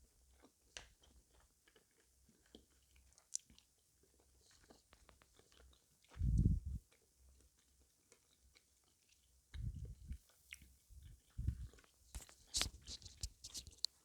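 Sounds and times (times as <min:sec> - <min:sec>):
person chewing sweets: 0:00.1 - 0:14.0.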